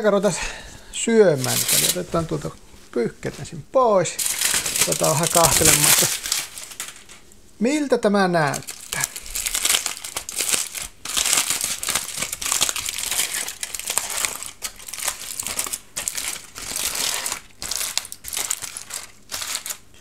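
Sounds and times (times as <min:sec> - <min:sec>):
aluminium foil crinkling: 0:01.2 - 0:02.6, 0:04.2 - 0:07.4, 0:08.4 - 0:20.0.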